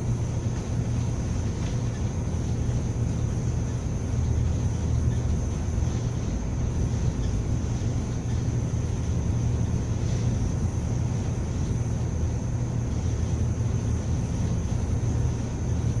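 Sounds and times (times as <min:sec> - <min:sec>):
thin high whine: 0:00.0 - 0:16.0
wind and sea rushing along hull: 0:00.0 - 0:16.0.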